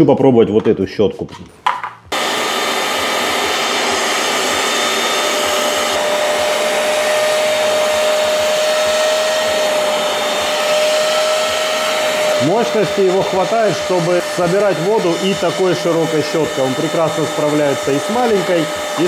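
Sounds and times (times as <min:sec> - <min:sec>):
carpet extractor suction motor: 0:02.1 - 0:19.0
motor whine: 0:02.1 - 0:19.0.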